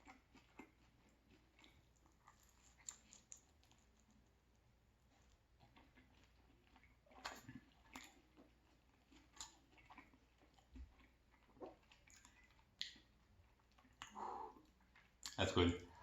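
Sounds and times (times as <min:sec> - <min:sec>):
person chewing food: 0:00.0 - 0:15.4.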